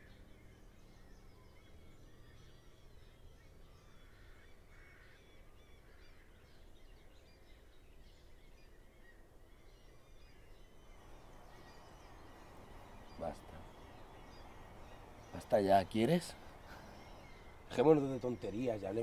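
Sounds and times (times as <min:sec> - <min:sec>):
short bird calls: 0:00.0 - 0:07.8, 0:08.6 - 0:19.0.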